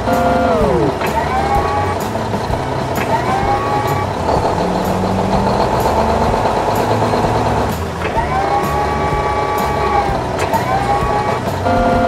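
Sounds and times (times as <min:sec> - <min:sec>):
diesel engine running: 0:00.0 - 0:12.0
hydraulic whine: 0:00.0 - 0:12.0.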